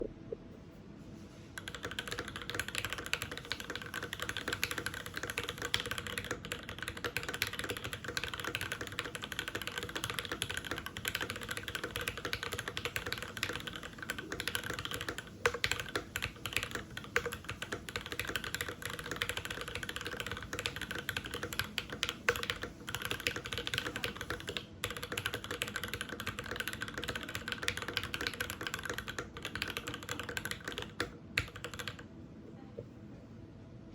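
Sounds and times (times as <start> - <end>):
mechanical keyboard typing: 1.6 - 32.1.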